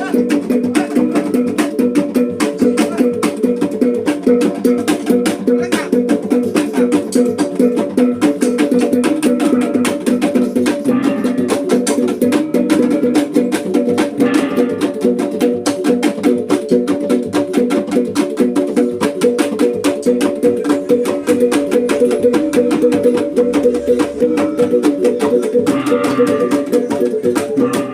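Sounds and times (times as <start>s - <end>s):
drum strokes: 0.0s - 27.9s.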